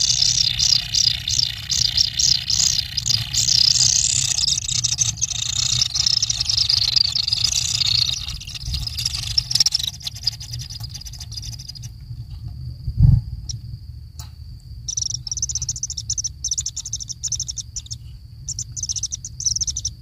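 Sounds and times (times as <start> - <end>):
nestlings begging calls: 0.0 - 11.9, 14.9 - 20.0
steady low rumble: 0.0 - 20.0.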